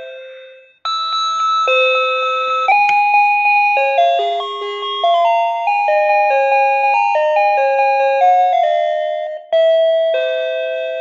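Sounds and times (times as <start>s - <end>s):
electronic doorbell-style alarm melody: 0.0s - 11.0s.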